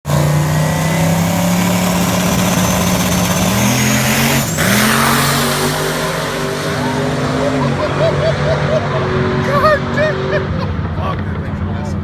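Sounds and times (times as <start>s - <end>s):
loud engine note: 0.1s - 11.0s.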